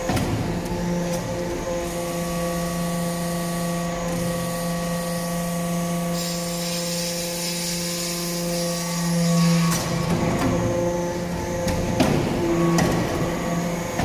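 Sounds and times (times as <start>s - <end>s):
hydraulic pump humming: 0.0s - 14.0s.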